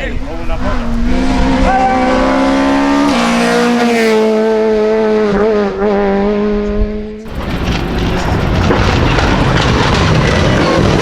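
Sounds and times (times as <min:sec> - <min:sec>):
car engine at high revs: 0:00.5 - 0:11.0.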